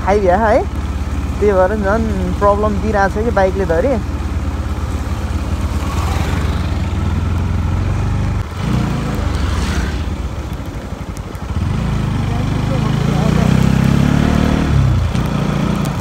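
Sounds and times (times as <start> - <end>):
motorbike engine running: 0.0 - 16.0.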